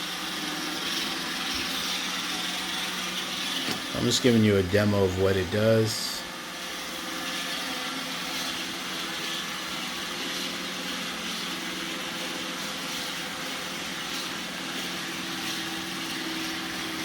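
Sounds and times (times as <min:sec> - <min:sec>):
robot vacuum running: 0:00.0 - 0:17.0.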